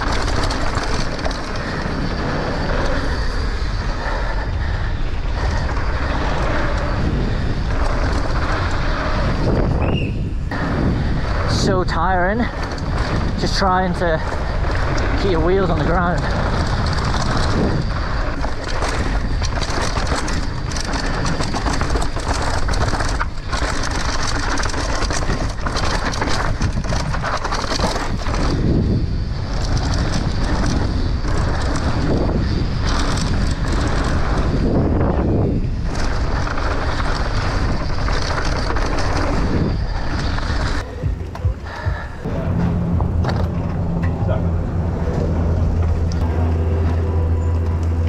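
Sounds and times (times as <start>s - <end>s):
bike rattling and knocking: 0.0s - 48.0s
tyres running over gravel: 0.0s - 48.0s
wind on microphone: 0.0s - 48.0s.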